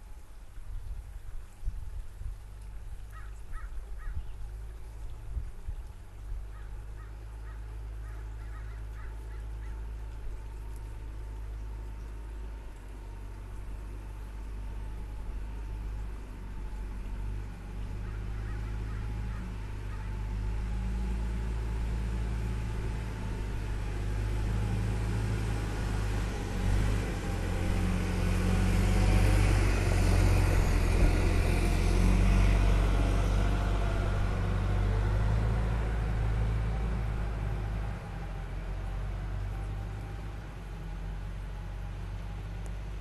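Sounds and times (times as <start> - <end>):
vehicle engine rumbling: 0.0 - 43.0.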